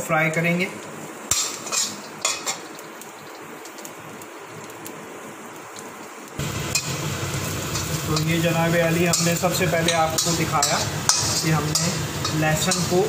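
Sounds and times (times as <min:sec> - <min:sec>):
garlic sizzling in hot oil: 0:00.8 - 0:13.0.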